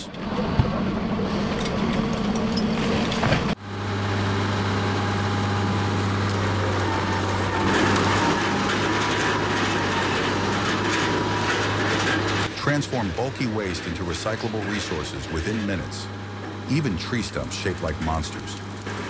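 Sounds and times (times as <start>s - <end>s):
heavy machinery humming: 0.0s - 19.0s
machine hum: 0.0s - 19.0s.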